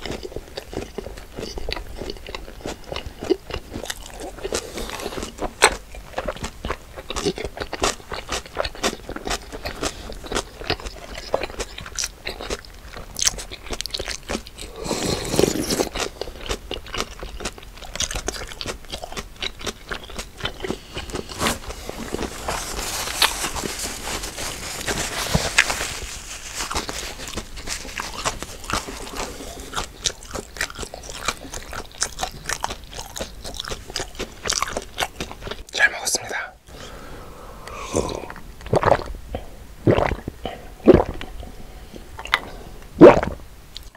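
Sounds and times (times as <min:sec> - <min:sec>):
crunchy bites and chewing: 0:00.0 - 0:36.4.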